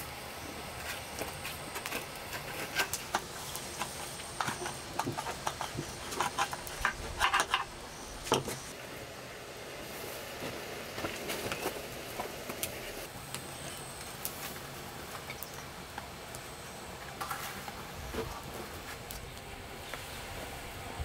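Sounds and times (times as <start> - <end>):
faint outdoor hiss: 0.0 - 21.0.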